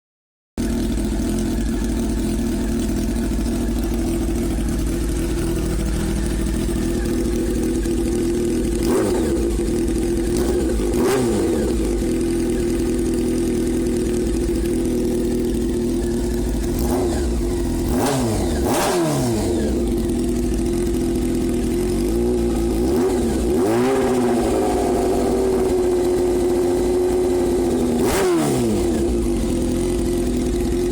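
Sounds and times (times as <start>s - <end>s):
motorcycle engine idling and revving: 0.6s - 30.9s.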